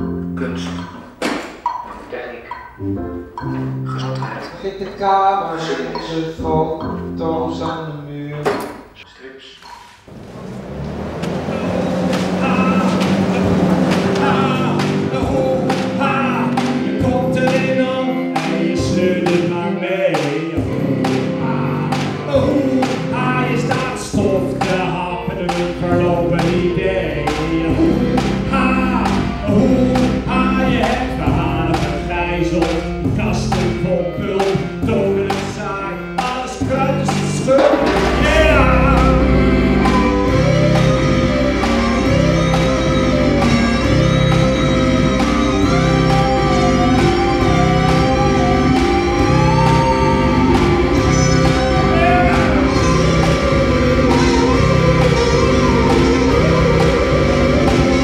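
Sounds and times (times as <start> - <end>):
band music with singing: 3.4 - 8.8, 11.3 - 58.0.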